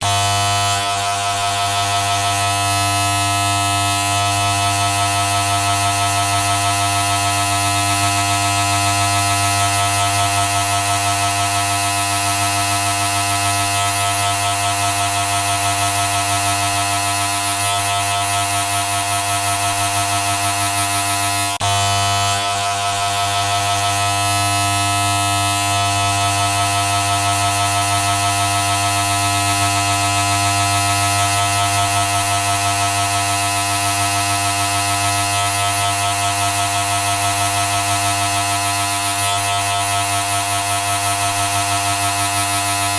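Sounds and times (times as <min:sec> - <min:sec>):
loud steady buzz: 0:00.0 - 0:42.9.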